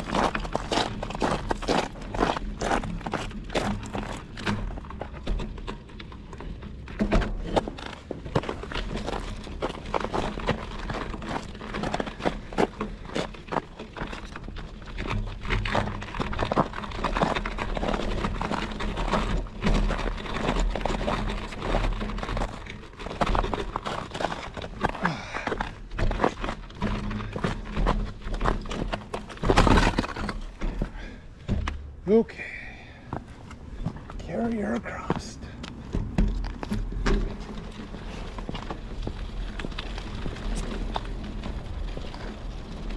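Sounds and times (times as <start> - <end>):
bike tyre crunching over snow: 0.0 - 42.9.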